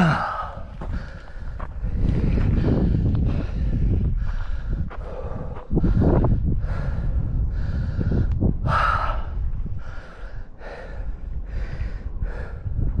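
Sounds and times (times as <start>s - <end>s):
person breathing hard: 0.0s - 13.0s
wind rumbling on microphone: 0.0s - 13.0s.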